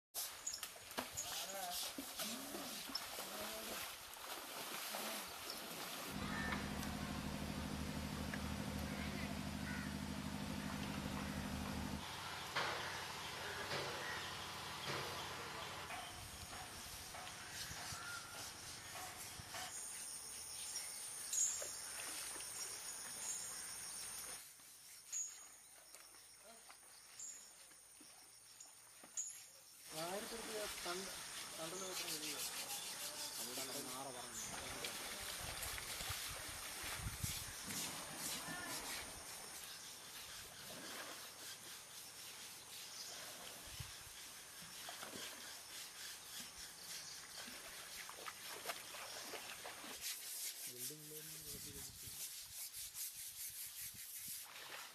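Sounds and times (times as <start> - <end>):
scrubbing wet elephant hide: 0.2 - 14.3, 15.1 - 22.8, 29.8 - 54.9
insects droning: 5.0 - 50.0.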